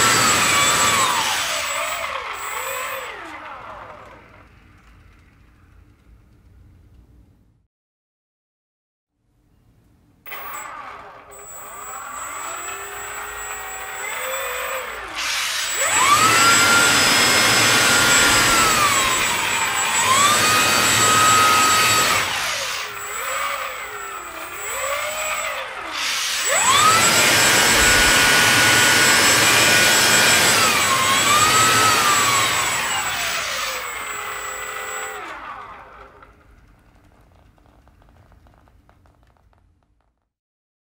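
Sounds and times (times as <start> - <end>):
electric ducted fan whine: 0.0 - 7.6, 9.3 - 39.3.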